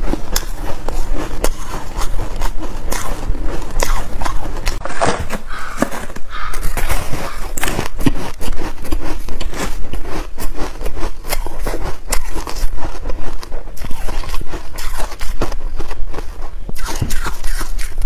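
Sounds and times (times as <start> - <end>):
person crunching ice: 0.0 - 18.0.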